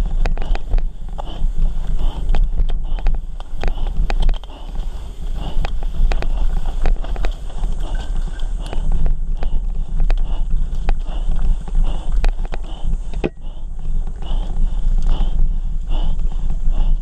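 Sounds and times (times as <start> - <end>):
bike rattling over bumps: 0.0 - 17.0
tyres rumbling on dirt trail: 0.0 - 17.0
wind: 0.0 - 17.0.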